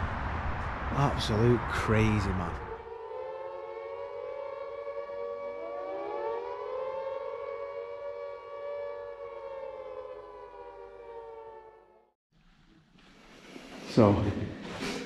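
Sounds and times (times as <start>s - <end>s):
air raid siren wailing: 0.0s - 12.2s.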